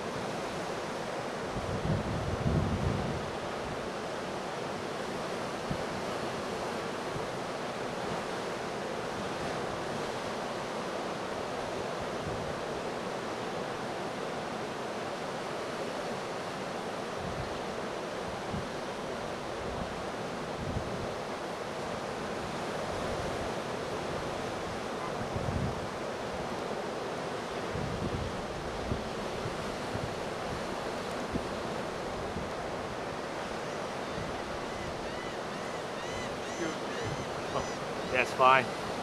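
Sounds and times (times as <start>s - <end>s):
surf washing in: 0.0s - 39.0s.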